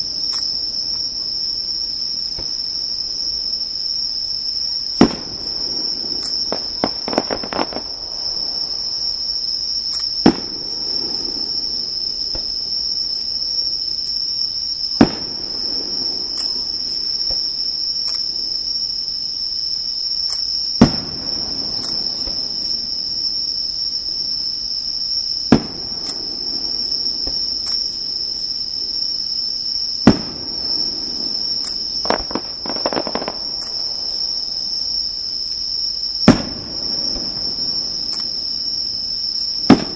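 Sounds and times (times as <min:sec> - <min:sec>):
fireworks bangs: 0:00.0 - 0:13.8, 0:14.6 - 0:18.4, 0:20.6 - 0:39.9
fireworks crackling: 0:00.0 - 0:19.0, 0:20.2 - 0:39.9
insects chirring: 0:00.0 - 0:39.9.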